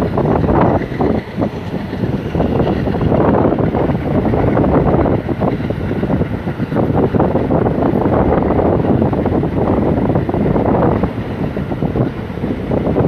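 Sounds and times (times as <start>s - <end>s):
passenger train rumbling: 0.0s - 13.0s
wind buffeting microphone: 0.0s - 13.0s.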